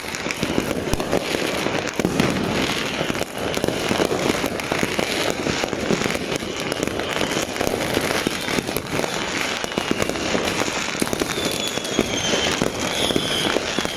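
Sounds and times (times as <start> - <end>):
fireworks crackling and banging: 0.0 - 13.9.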